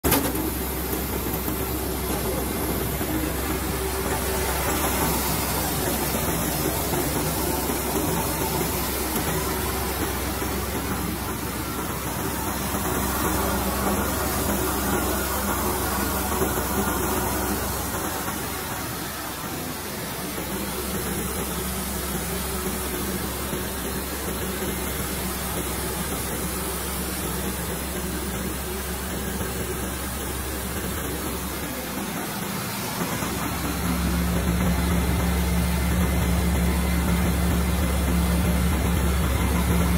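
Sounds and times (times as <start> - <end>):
rice mill motor hum: 0.0 - 39.9
rushing hiss of grain: 0.2 - 39.8.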